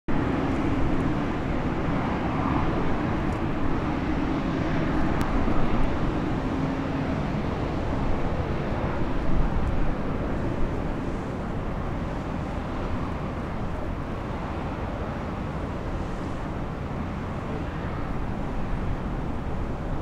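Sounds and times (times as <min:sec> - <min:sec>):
jet engines droning at low thrust: 0:00.1 - 0:20.0.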